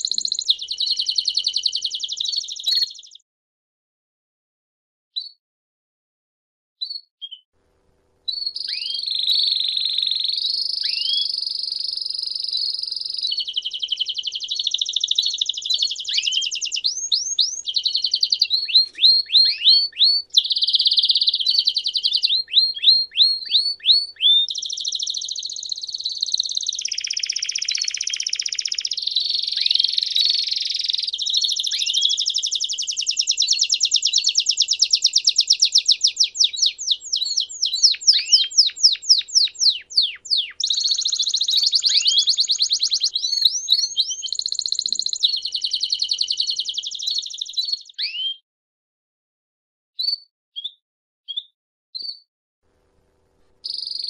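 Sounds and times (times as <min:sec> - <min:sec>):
canary singing trills: 0:00.0 - 0:03.2, 0:08.3 - 0:48.4, 0:53.6 - 0:54.0.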